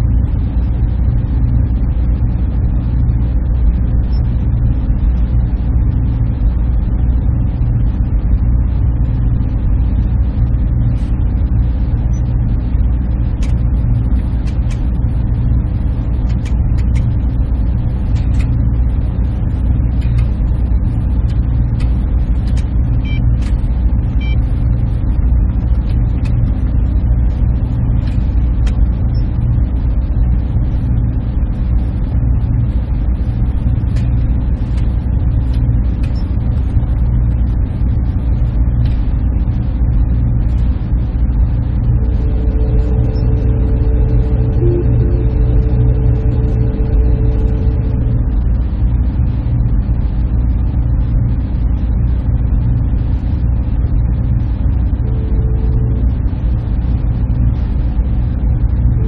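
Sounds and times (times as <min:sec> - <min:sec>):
server machines humming: 0:00.0 - 0:59.0.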